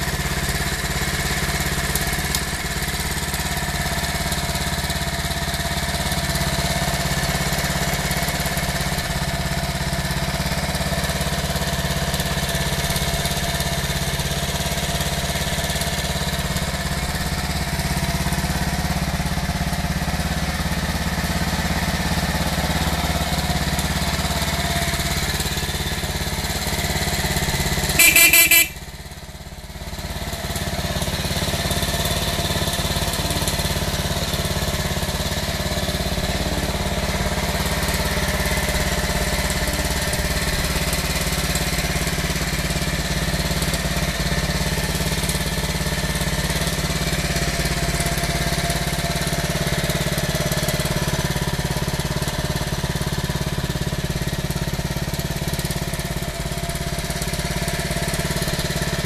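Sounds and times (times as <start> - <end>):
loud engine crackle: 0.0 - 59.0
motorcycle engine idling: 0.0 - 59.0.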